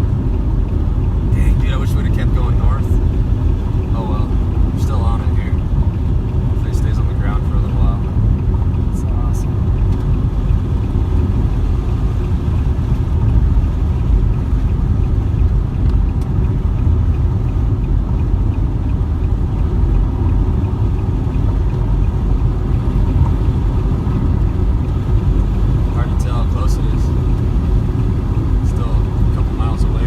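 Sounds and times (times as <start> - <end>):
vehicle rumbling on road: 0.0 - 30.0.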